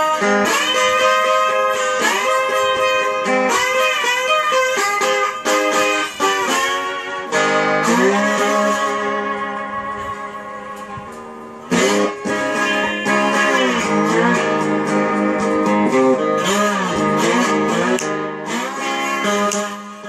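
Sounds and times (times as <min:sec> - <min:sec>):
slide electric guitar blues: 0:00.0 - 0:20.0.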